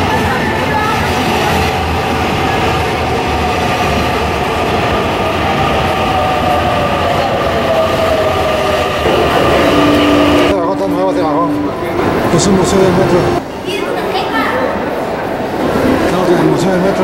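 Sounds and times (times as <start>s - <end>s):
metro train rumbling: 0.0s - 17.0s.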